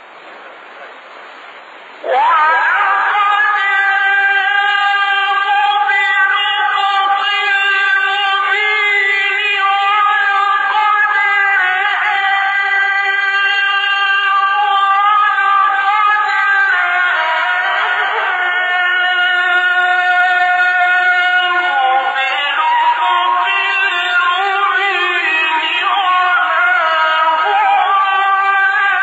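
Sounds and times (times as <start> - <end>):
man reciting long melismatic note: 2.0 - 29.0.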